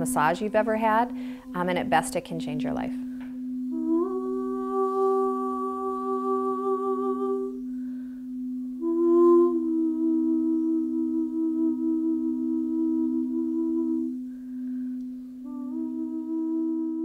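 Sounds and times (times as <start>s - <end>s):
higher singing bowls ringing: 0.0s - 17.0s
low singing bowl humming: 0.0s - 17.0s.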